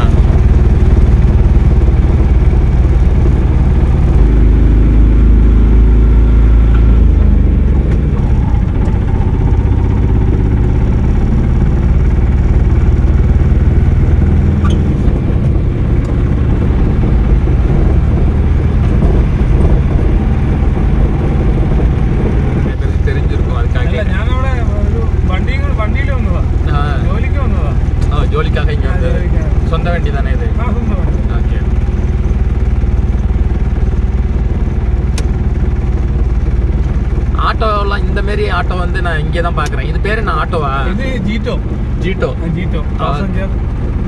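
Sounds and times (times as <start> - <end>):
road noise: 0.0 - 44.0
vehicle engine running: 0.0 - 44.0.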